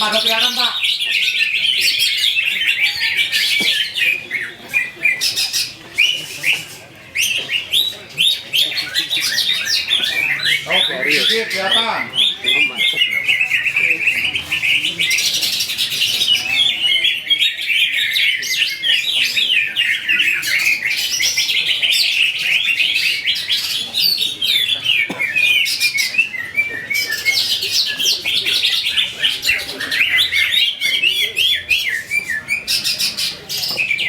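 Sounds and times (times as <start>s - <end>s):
bird singing high chirps and trills: 0.0s - 34.0s.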